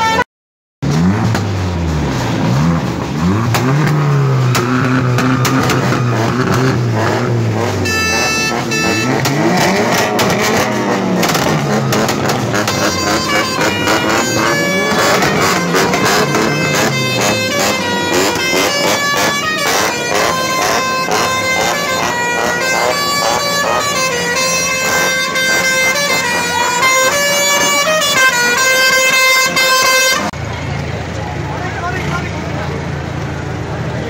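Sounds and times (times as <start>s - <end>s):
engine revving: 0.8s - 30.4s.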